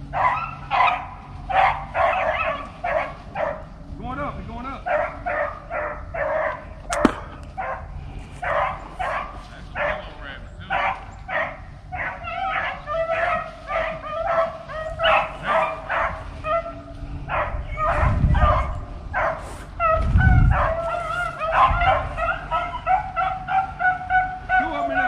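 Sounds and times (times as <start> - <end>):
hounds baying and yelping: 0.0 - 3.8, 4.8 - 25.0
low rumbles: 0.0 - 24.6.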